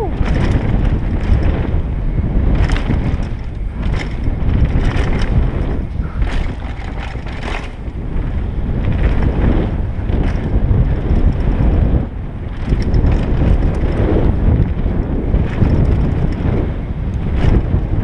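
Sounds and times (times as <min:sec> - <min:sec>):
bike rattling over bumps: 0:00.0 - 0:18.0
tyres rumbling on dirt trail: 0:00.0 - 0:18.0
wind buffeting microphone: 0:00.0 - 0:18.0.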